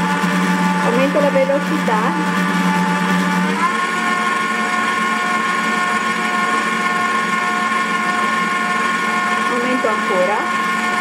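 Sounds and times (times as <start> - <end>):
stand mixer motor whining: 0.0 - 11.0.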